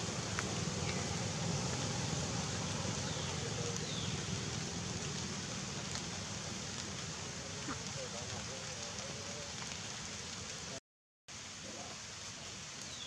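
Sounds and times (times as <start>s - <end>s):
steady rushing outdoor noise: 0.0s - 10.8s.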